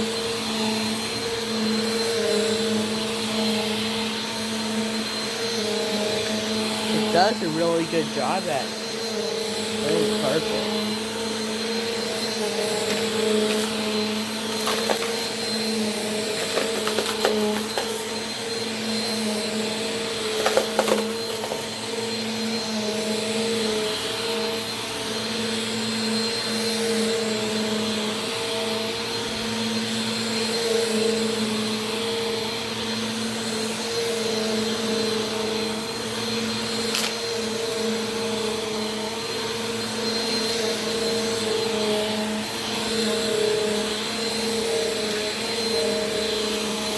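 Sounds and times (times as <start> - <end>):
vacuum cleaner running on carpet: 0.0 - 46.9.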